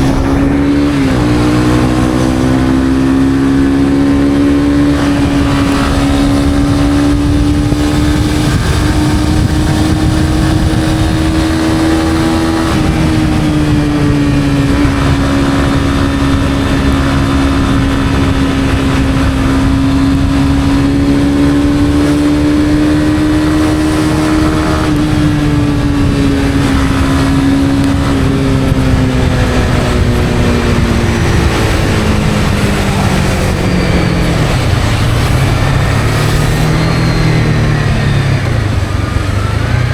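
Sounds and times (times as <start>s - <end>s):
motorcycle engine cruising: 0.0s - 39.9s
wind and tyre noise: 0.0s - 39.9s.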